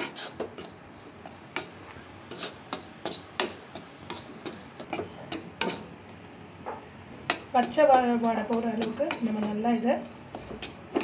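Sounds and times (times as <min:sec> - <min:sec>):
spatula scraping and stirring in pan: 0:00.0 - 0:06.3, 0:07.1 - 0:11.0.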